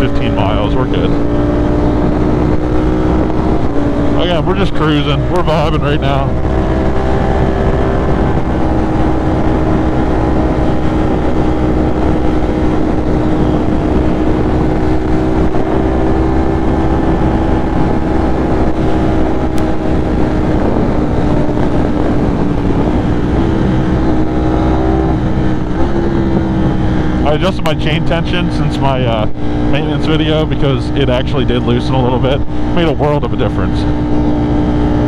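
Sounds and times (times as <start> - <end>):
motorcycle engine cruising: 0.0 - 35.0
wind rush over microphone: 0.0 - 35.0.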